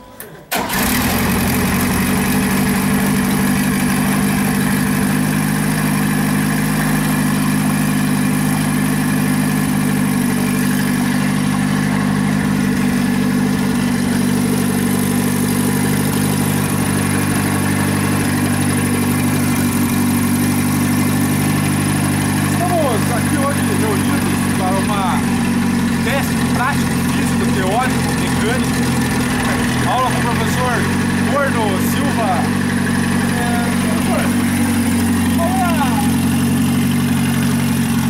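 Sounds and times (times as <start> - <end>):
car engine idling: 0.5 - 38.0.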